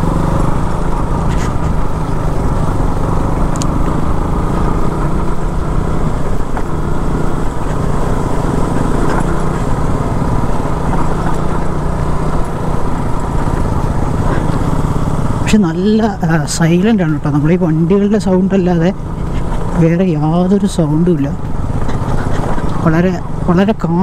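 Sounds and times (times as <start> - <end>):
motorcycle engine running: 0.0 - 24.0
tyre and road noise: 0.0 - 24.0.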